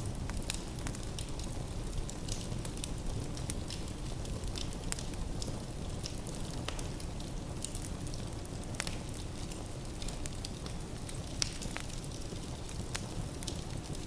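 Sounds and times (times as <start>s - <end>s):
logs crackling and popping: 0.0s - 14.0s
low rumble of fire flames: 0.0s - 14.0s.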